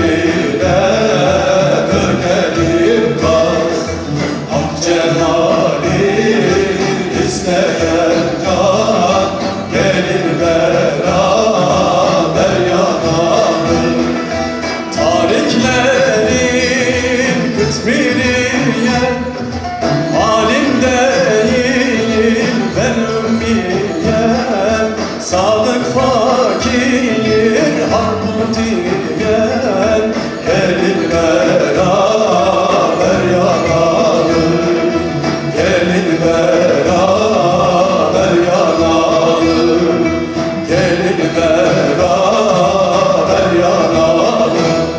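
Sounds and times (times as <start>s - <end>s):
instrumental accompaniment: 0.0s - 44.9s
person singing folk song: 0.0s - 44.9s.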